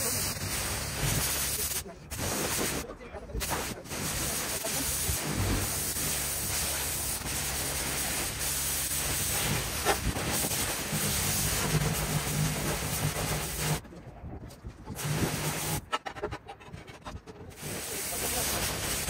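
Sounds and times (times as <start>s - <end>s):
pressure washer spraying stone: 0.0s - 13.8s, 14.9s - 15.9s, 17.5s - 19.0s.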